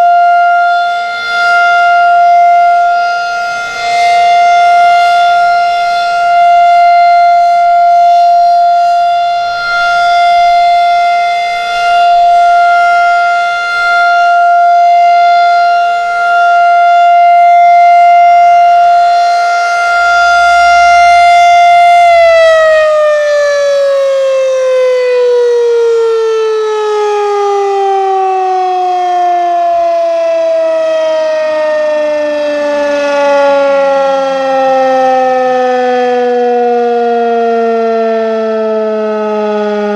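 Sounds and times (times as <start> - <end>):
rotating tornado siren: 0.0 - 39.9.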